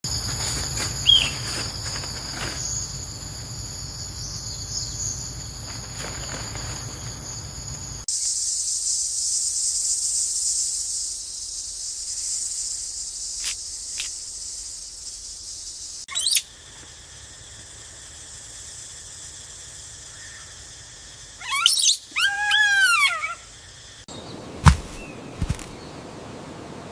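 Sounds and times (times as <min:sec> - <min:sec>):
insect chorus with ringing chirr: 0:00.0 - 0:26.0
hissy insect drone: 0:00.1 - 0:26.9.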